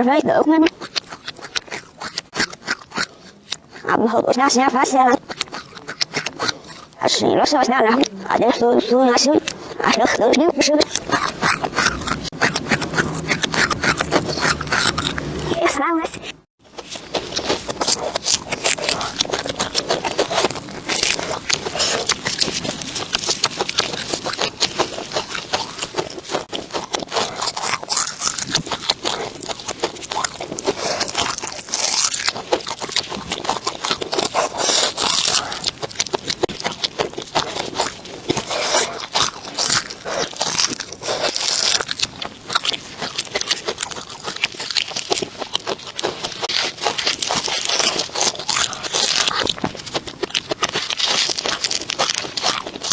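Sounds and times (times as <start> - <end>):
person chewing crunchy food: 0.0 - 52.9.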